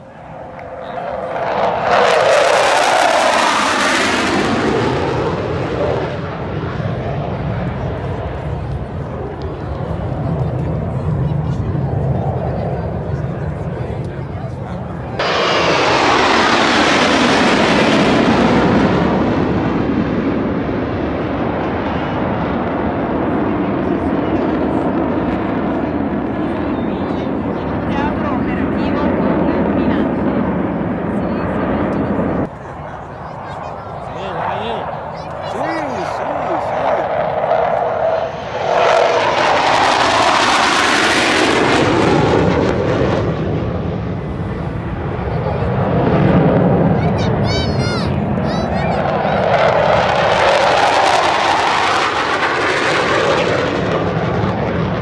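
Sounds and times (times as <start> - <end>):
jets flying past: 0.0 - 55.0.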